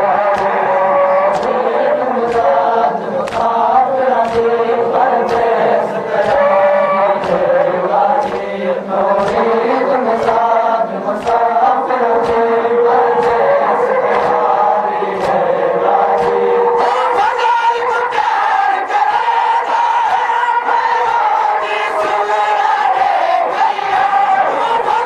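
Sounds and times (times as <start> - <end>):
men chanting together: 0.0 - 25.0.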